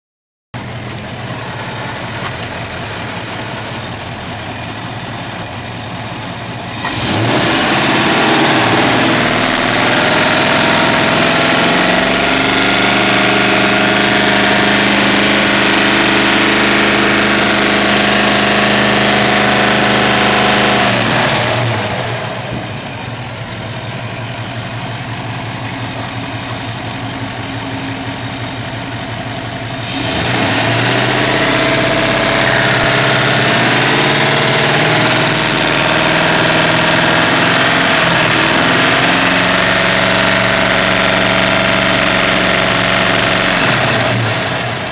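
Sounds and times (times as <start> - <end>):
car engine idling and revving: 0.6 - 44.9.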